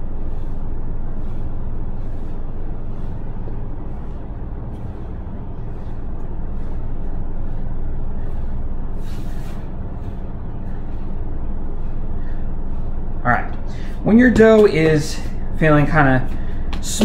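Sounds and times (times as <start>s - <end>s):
hands kneading bread dough: 0.0s - 17.0s
steady low rumble: 0.0s - 17.0s.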